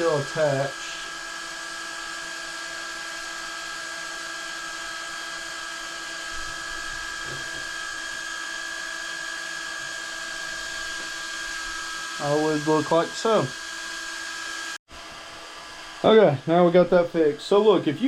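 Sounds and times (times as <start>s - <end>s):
steady electric whine: 0.0s - 18.0s.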